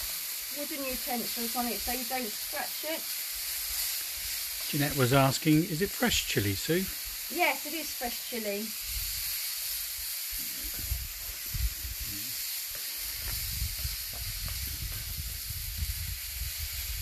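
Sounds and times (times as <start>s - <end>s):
food sizzling on a griddle: 0.0s - 17.0s.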